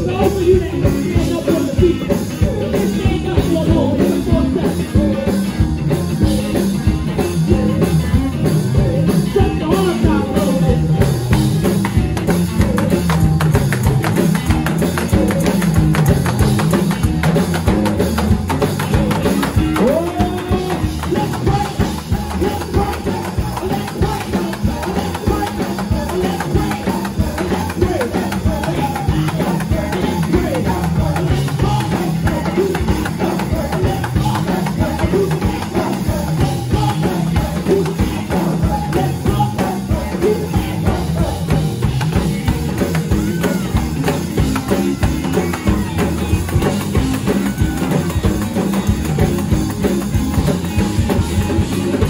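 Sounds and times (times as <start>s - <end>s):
drum kit beat: 0.0s - 52.0s.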